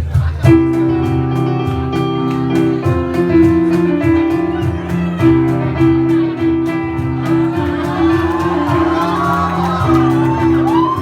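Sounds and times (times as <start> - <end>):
keyboard music with bass and beat: 0.0 - 11.0.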